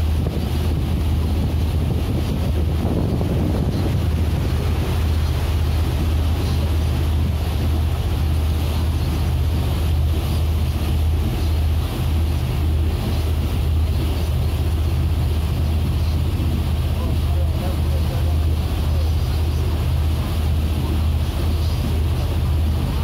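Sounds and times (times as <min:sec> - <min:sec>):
motorboat engine droning: 0:00.0 - 0:23.0
water rushing past hull: 0:00.0 - 0:23.0
wind on microphone: 0:00.0 - 0:23.0.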